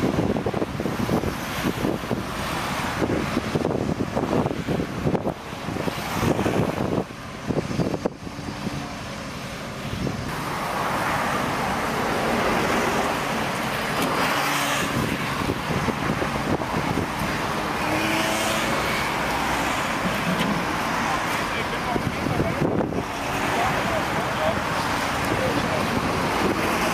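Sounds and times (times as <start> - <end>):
street traffic noise: 0.0 - 26.9.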